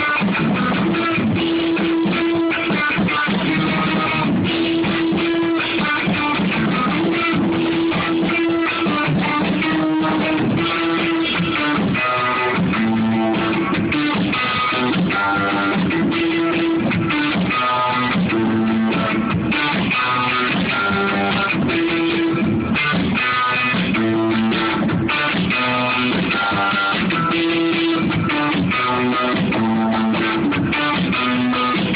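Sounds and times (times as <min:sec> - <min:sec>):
bass guitar playing: 0:00.0 - 0:31.9
electric guitar playing: 0:00.0 - 0:31.9.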